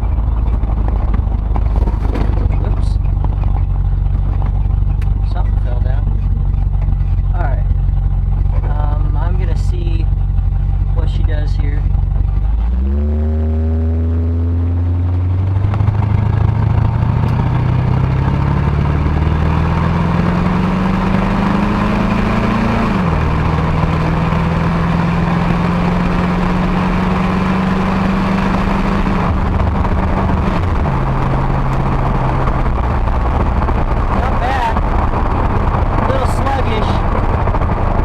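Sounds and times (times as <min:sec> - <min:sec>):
truck engine accelerating: 0:00.0 - 0:38.0.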